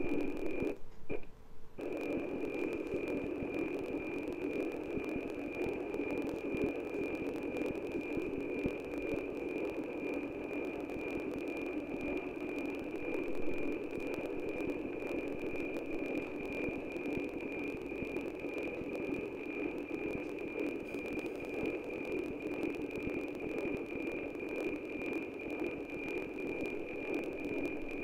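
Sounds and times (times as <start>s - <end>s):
steady high radio tone: 0.0s - 1.2s, 1.8s - 28.0s
static hiss: 0.0s - 28.0s.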